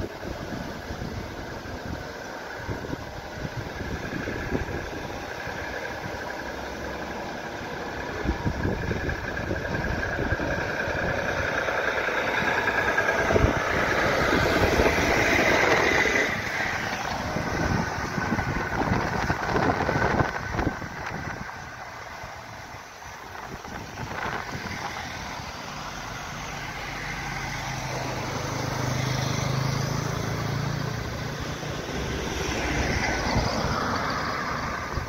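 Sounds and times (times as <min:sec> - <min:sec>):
truck diesel engine: 0:00.0 - 0:35.0
tyres on road: 0:00.0 - 0:35.0.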